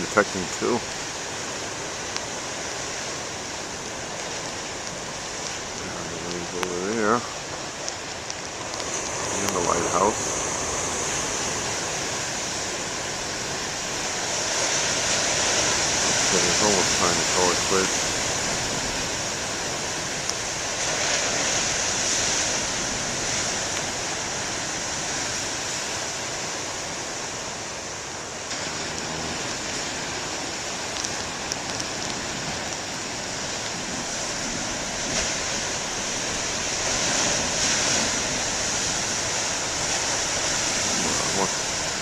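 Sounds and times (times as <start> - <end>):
ocean surf breaking: 0.0 - 42.0.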